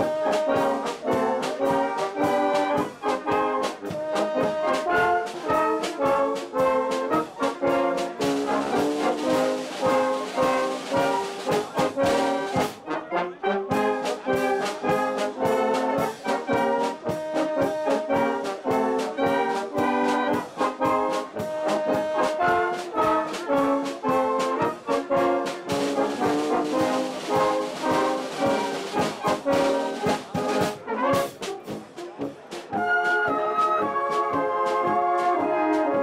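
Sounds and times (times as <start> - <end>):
brass band playing lively tune: 0.0 - 36.0.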